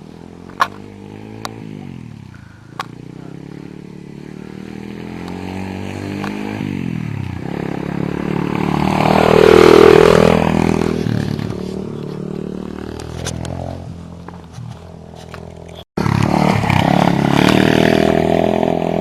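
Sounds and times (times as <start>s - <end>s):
motorbike engine passing: 0.0s - 19.0s.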